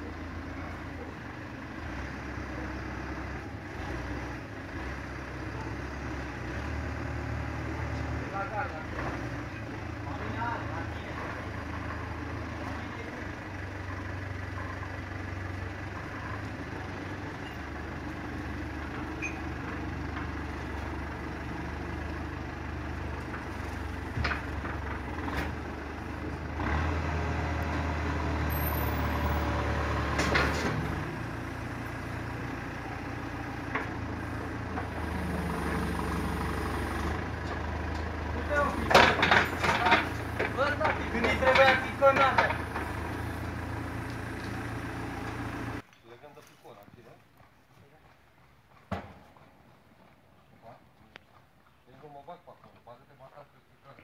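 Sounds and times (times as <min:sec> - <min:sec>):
diesel engine running: 0:00.0 - 0:45.8.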